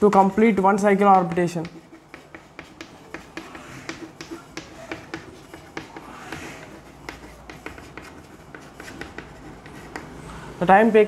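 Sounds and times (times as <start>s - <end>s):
chalk tapping on blackboard: 0.0s - 10.3s
chalk scraping: 0.0s - 10.6s.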